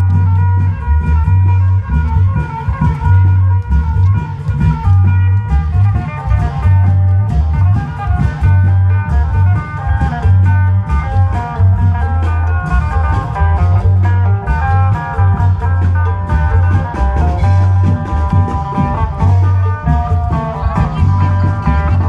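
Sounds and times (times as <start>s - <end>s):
heavy drum beats: 0.0s - 22.0s
plucked string melody: 0.0s - 22.0s.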